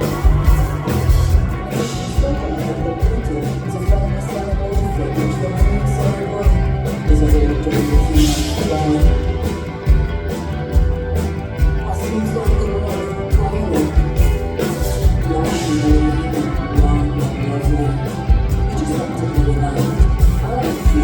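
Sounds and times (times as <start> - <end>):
band playing live: 0.0 - 21.0.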